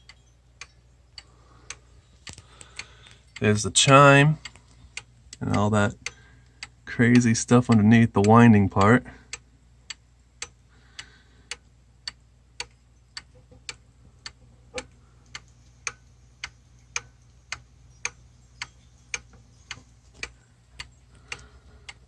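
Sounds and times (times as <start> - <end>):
pendulum clock ticking: 0.0 - 22.0.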